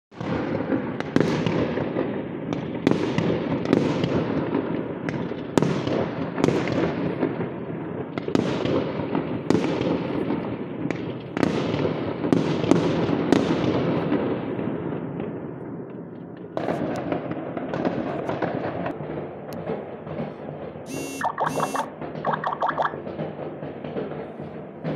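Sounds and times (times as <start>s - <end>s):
distant fireworks rumble and crackling: 0.2s - 24.9s.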